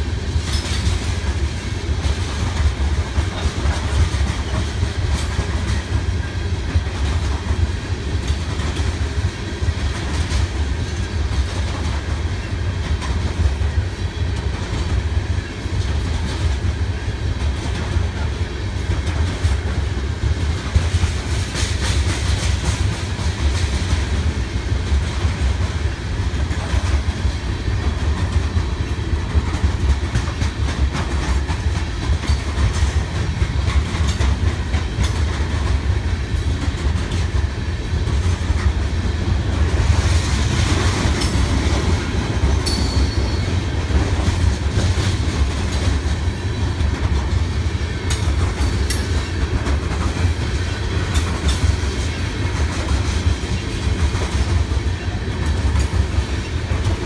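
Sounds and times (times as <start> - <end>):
wheels clacking over rail joints: 0.0 - 9.1, 17.4 - 57.0.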